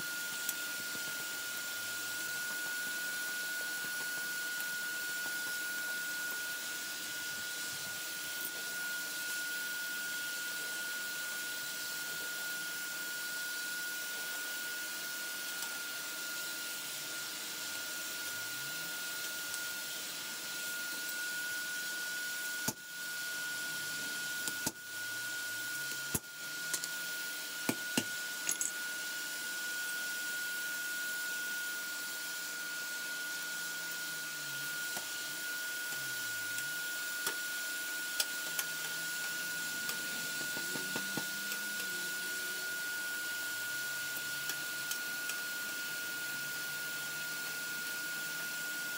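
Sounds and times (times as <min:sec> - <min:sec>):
forge air blower hissing: 0:00.0 - 0:48.9.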